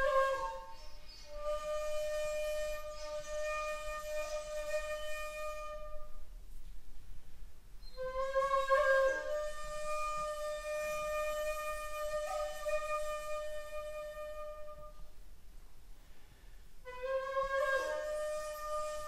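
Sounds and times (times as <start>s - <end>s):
bamboo flute long breathy notes: 0.0s - 6.3s, 7.8s - 15.2s, 16.0s - 19.0s.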